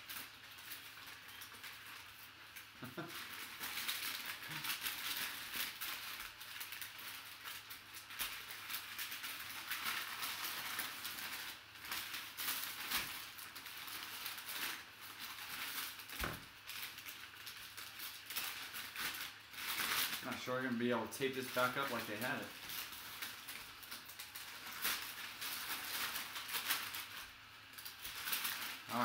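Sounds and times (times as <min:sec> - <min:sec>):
packing paper crinkling: 0:00.0 - 0:29.0.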